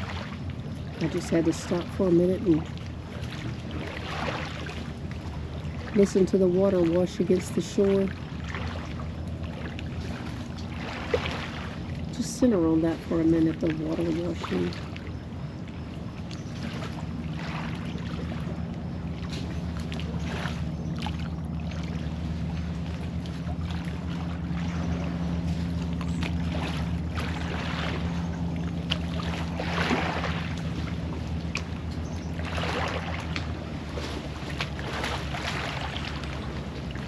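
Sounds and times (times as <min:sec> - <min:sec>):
lake waves lapping on shore: 0:00.0 - 0:37.0
steady low hum: 0:00.0 - 0:37.0.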